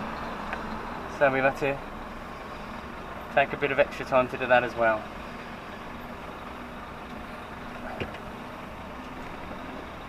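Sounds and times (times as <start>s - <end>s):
diesel engine humming: 0.0s - 10.0s.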